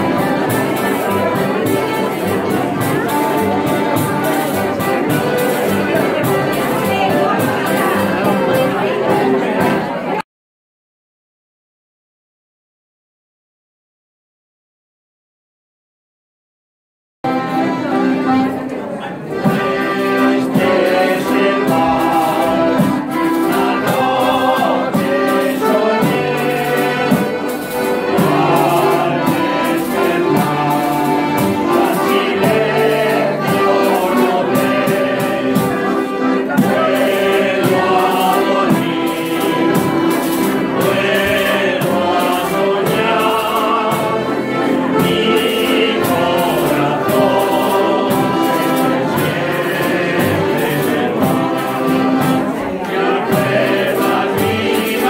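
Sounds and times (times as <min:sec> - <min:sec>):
group of voices singing: 0:00.0 - 0:10.2, 0:19.4 - 0:55.0
string band playing dance tune: 0:00.0 - 0:10.2, 0:17.3 - 0:55.0.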